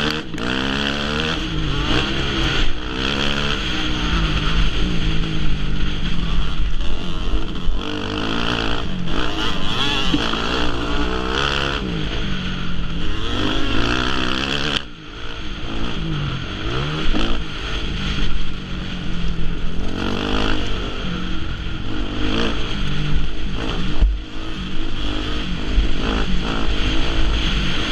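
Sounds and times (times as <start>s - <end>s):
motocross bike engines revving: 0.0s - 27.9s.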